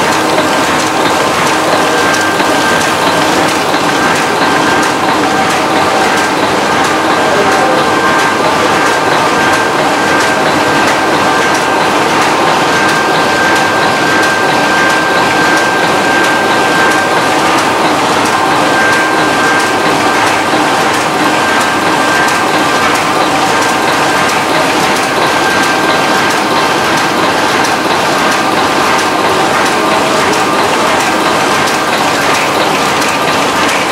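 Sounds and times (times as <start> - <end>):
printing press clattering: 0.0 - 33.9.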